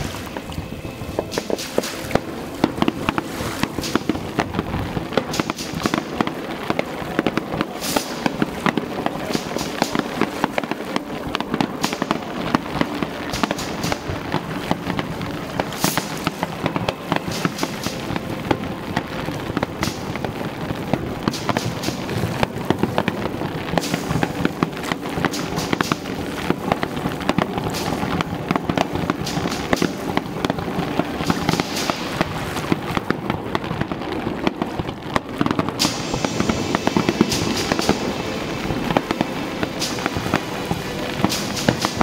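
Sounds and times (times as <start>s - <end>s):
fireworks bangs: 0.0s - 42.0s
fireworks crackling pops: 0.0s - 42.0s.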